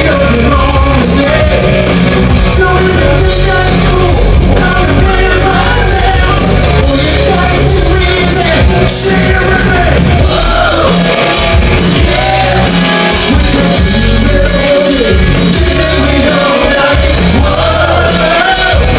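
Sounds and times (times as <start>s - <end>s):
bass guitar: 0.0s - 18.9s
distorted electric guitar: 0.0s - 18.9s
drum kit: 0.0s - 18.9s
singer shouting and singing: 0.0s - 18.9s.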